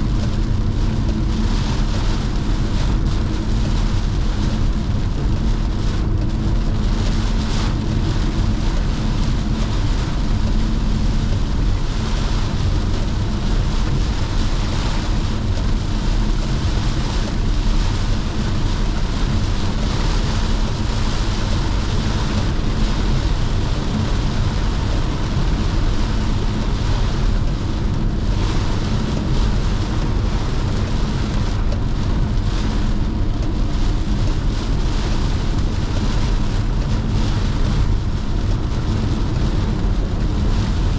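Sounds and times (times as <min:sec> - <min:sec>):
car engine and road drone: 0:00.0 - 0:40.9
rain and tyre hiss: 0:00.0 - 0:40.9.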